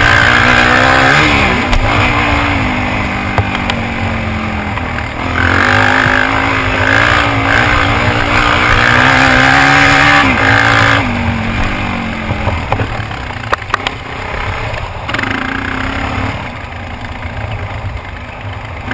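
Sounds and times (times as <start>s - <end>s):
dirt bike engine running: 0.0s - 18.9s.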